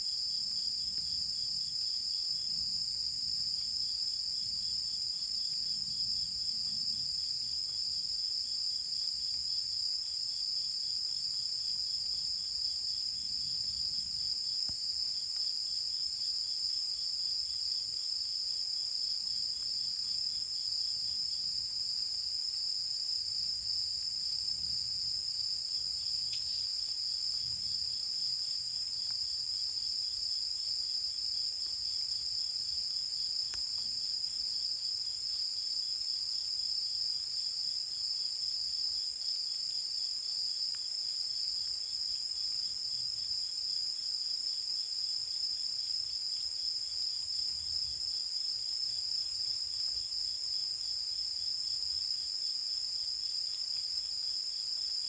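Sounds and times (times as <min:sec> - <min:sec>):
rapidly pulsing insect chirp: 0:00.0 - 0:55.0
crickets trilling: 0:00.1 - 0:55.0.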